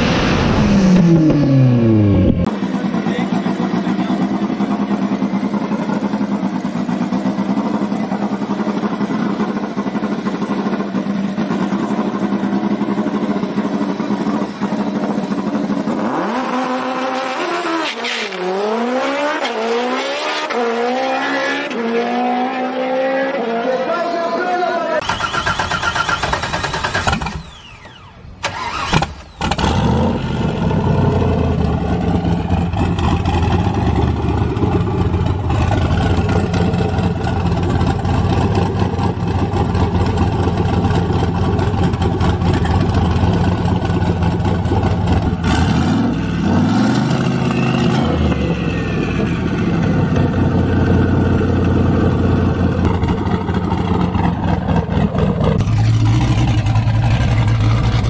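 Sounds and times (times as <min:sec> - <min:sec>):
car engine revving: 0:00.0 - 0:24.0, 0:25.0 - 0:58.0
car engine cranking and idling: 0:00.8 - 0:17.0, 0:25.0 - 0:58.0.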